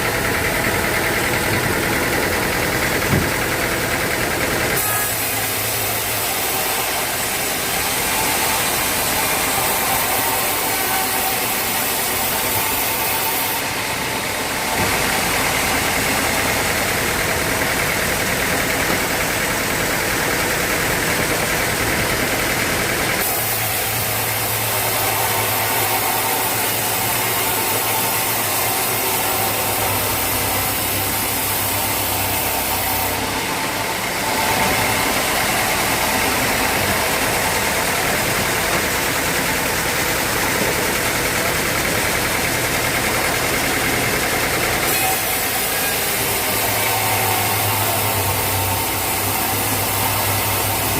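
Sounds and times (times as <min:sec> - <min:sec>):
sawmill machinery droning: 0:00.0 - 0:50.9.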